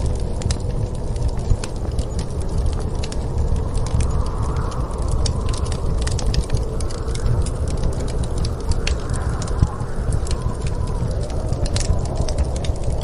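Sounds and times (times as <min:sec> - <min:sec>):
fireplace crackling and popping: 0:00.0 - 0:13.0
low rumble of storm wind: 0:00.0 - 0:13.0.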